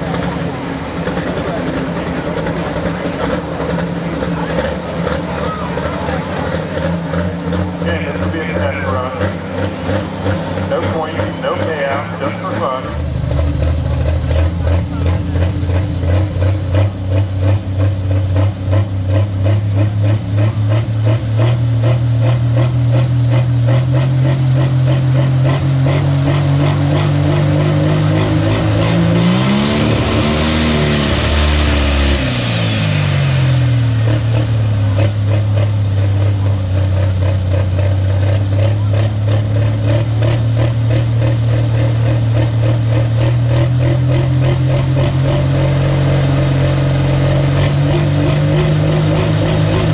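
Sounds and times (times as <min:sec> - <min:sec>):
tractor diesel engine revving: 0:00.0 - 0:49.9.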